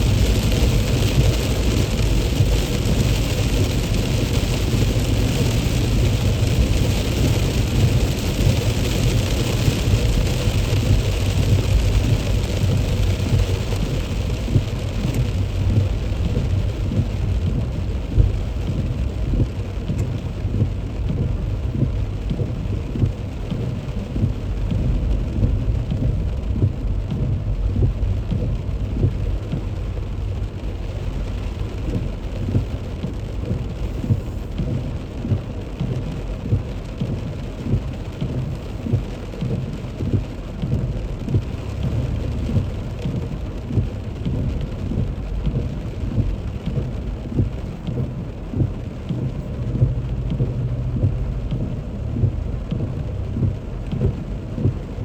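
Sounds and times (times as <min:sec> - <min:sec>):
heavy rain drumming on a car: 0:00.0 - 0:55.0.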